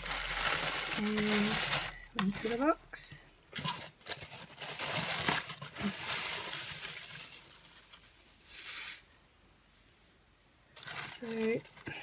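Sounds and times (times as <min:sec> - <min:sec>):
tissue paper rustling: 0:00.0 - 0:09.1, 0:10.8 - 0:12.0.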